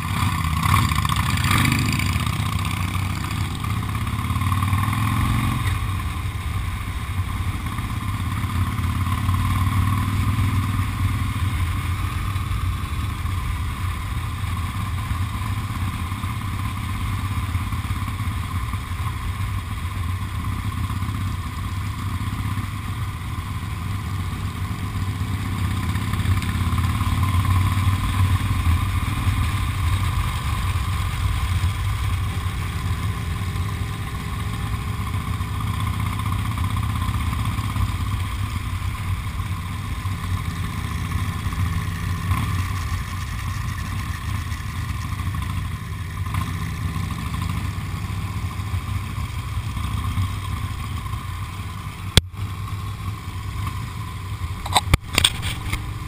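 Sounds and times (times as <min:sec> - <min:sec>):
motorcycle engine pulling away: 0:00.0 - 0:18.3, 0:23.6 - 0:56.0.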